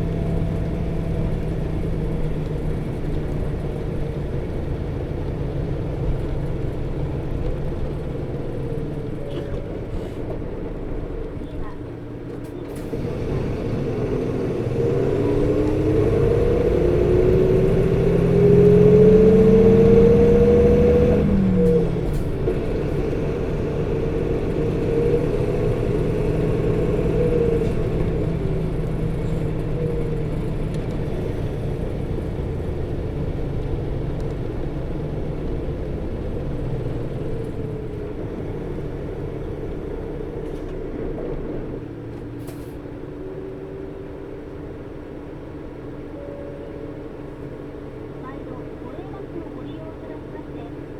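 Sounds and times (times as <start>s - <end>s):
bus engine accelerating with whine: 0.0s - 50.9s.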